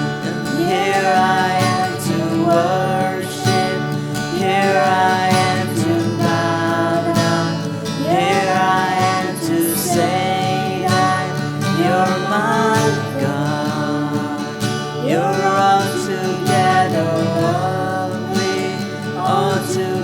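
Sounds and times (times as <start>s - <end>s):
worship band music with guitar: 0.0s - 20.0s.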